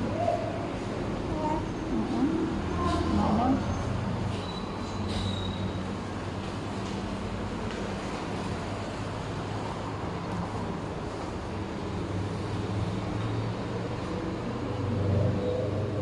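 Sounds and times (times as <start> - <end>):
vehicle engine and traffic hum: 0.0 - 16.0.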